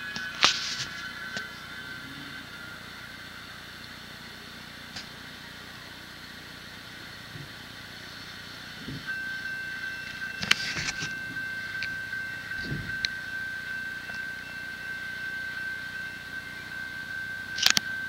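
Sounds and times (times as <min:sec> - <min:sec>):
outdoor background hiss: 0:00.0 - 0:18.0
steady high tone: 0:00.0 - 0:18.0.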